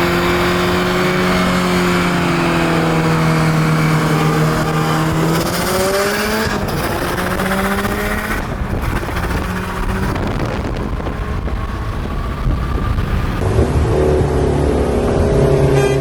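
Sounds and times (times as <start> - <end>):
car engine accelerating through gears: 0.0 - 16.0.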